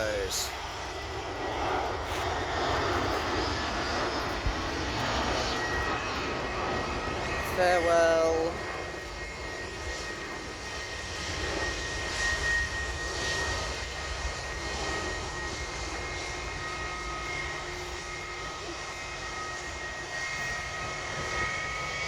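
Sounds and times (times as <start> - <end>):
jet engines at take-off power: 0.0 - 22.0.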